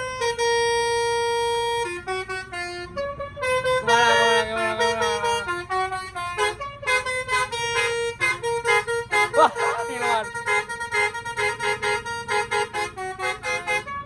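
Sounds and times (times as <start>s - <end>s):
horn playing a melody: 0.0s - 14.0s
horn chord: 1.0s - 13.8s.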